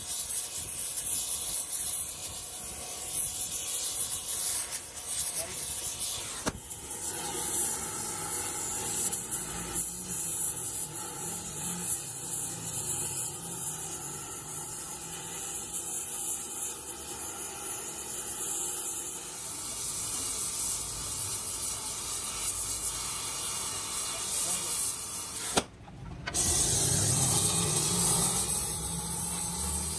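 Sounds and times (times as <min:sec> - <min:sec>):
welding torch hissing: 0:00.0 - 0:29.9.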